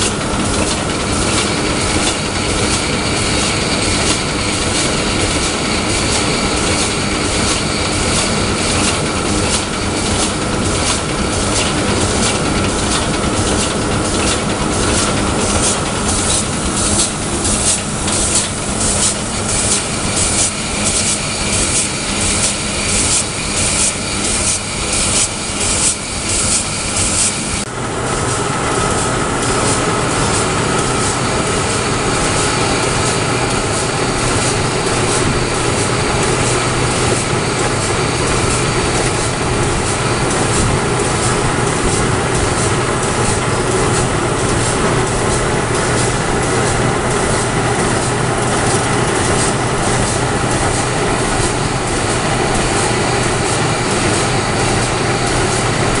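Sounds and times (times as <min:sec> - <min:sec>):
dense mechanical noise: 0:00.0 - 0:56.0
machine rhythmic clatter: 0:00.0 - 0:56.0.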